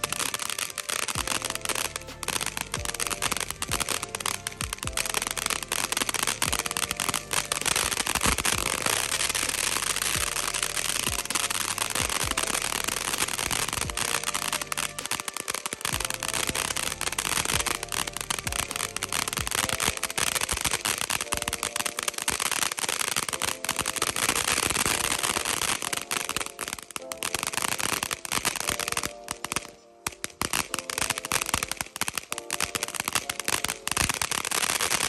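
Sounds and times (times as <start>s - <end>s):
firework fountain crackling: 0.0s - 35.0s.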